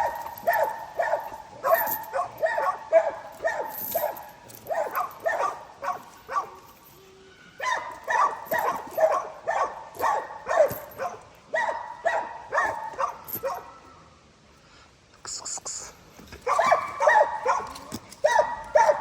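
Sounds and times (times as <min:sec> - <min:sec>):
dog barking: 0:00.0 - 0:06.7, 0:07.6 - 0:13.8, 0:16.4 - 0:19.0.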